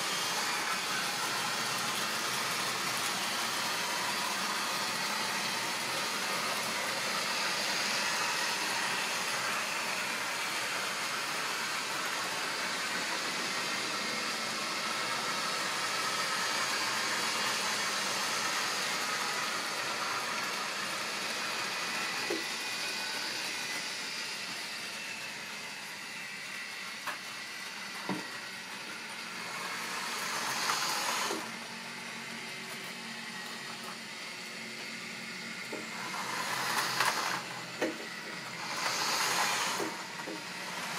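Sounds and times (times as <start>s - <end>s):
electric motor hum: 0.0s - 40.9s.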